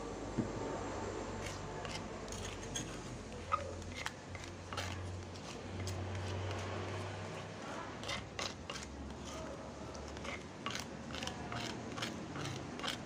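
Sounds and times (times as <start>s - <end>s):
spatula scraping stone mortar: 1.4s - 13.0s.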